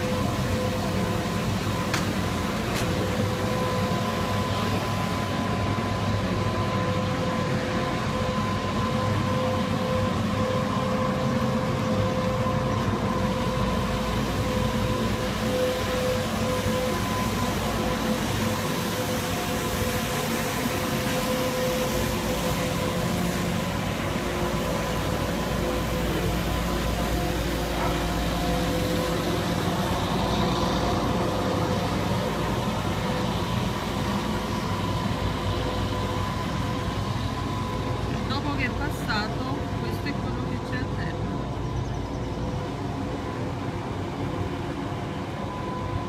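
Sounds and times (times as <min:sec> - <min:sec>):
machine humming with whine: 0:00.0 - 0:46.0
street sweeper engine drone: 0:00.0 - 0:46.0.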